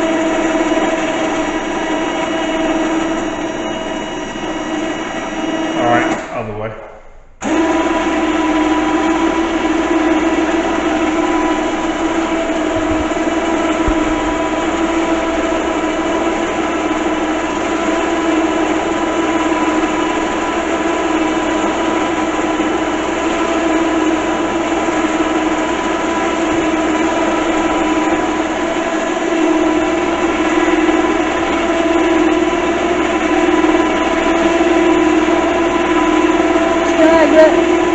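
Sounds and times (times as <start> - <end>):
electric winch motor whining: 0.0 - 6.3, 7.4 - 37.9.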